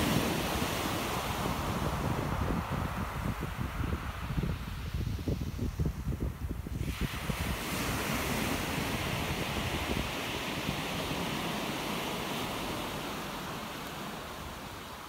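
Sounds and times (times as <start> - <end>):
surf breaking on shingle beach: 0.0 - 5.4, 6.7 - 15.0
wind buffeting microphone: 0.0 - 15.0.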